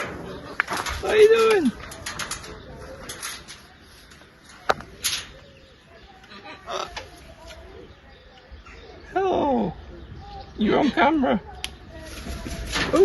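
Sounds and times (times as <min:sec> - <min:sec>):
bird calls: 0:00.0 - 0:13.0.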